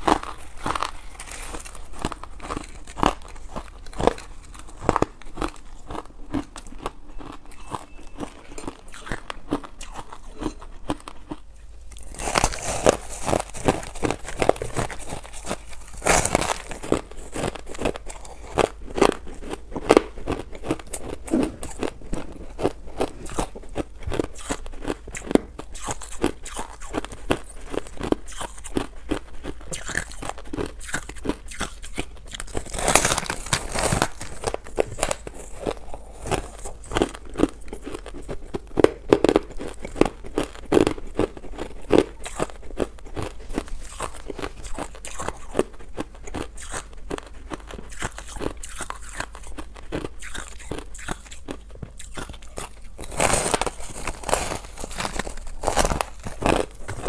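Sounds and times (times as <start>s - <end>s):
chewing crunchy ice: 0.0s - 57.0s.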